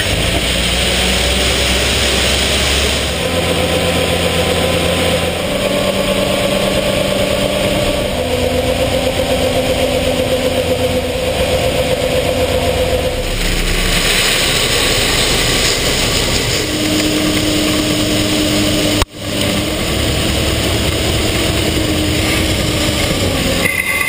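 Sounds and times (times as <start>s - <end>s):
tractor diesel engine droning: 0.0s - 24.0s.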